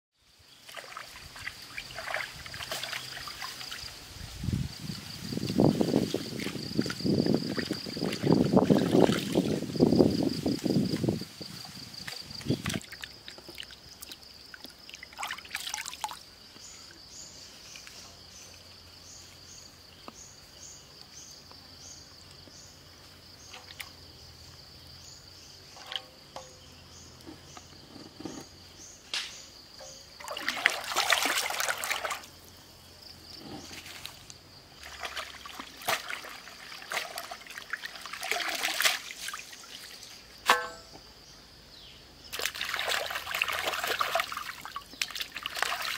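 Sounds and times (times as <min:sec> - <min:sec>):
water splashing and trickling: 0:00.3 - 0:17.1, 0:23.2 - 0:28.5, 0:29.7 - 0:40.9, 0:42.2 - 0:45.9.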